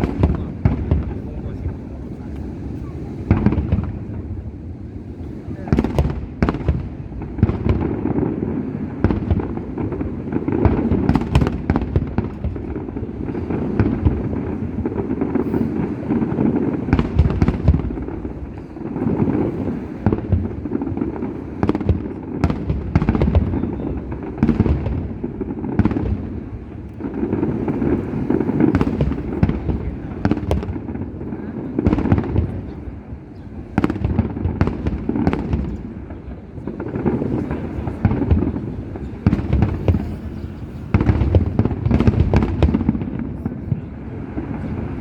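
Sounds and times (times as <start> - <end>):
fireworks booms and cracks: 0.0 - 45.0.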